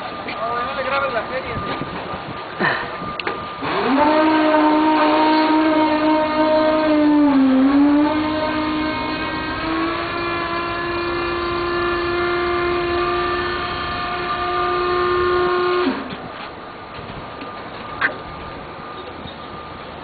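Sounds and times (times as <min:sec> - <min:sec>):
lift motor and hydraulic pump whining: 0:00.0 - 0:20.0.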